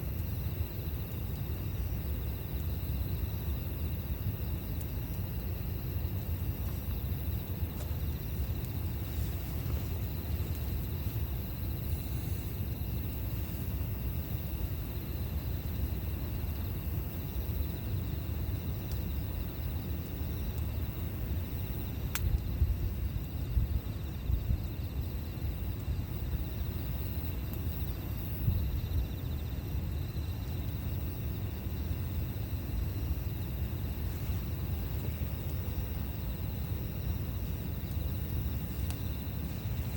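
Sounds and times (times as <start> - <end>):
campfire rumbling: 0.0 - 39.9
fire crackle: 0.0 - 39.9
insects droning: 0.0 - 39.9.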